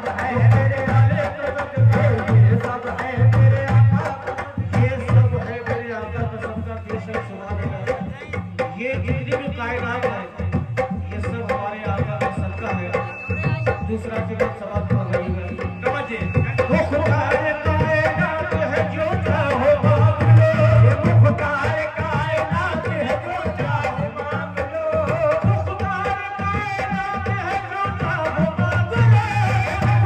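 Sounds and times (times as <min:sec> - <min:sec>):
hand drum rhythm: 0:00.0 - 0:30.0
men singing: 0:00.0 - 0:30.0.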